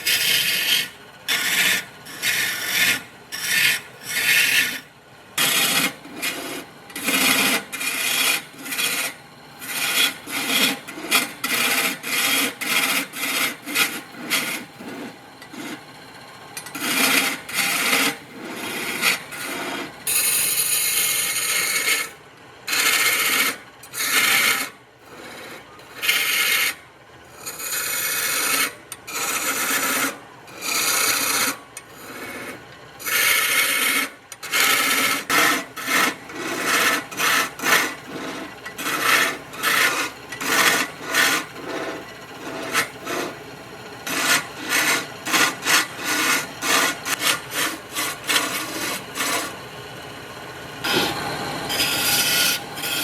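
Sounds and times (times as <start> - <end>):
tool rasping across wood: 0.0 - 4.8, 5.4 - 15.8, 16.6 - 22.1, 22.7 - 26.8, 27.4 - 49.6, 50.8 - 53.0.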